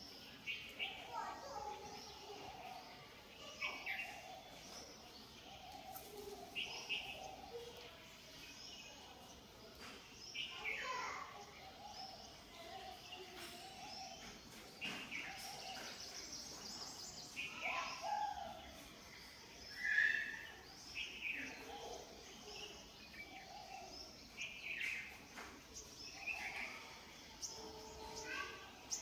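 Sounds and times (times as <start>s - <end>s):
bird chirps and calls: 0.0s - 29.0s
outdoor background noise: 0.0s - 29.0s.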